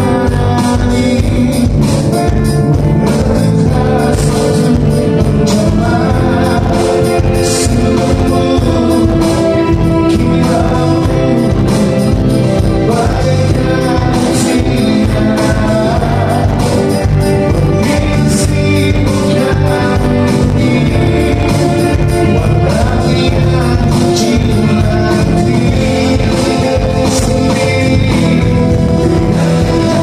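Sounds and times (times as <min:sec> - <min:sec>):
live band playing: 0:00.0 - 0:30.0
person singing: 0:00.0 - 0:30.0.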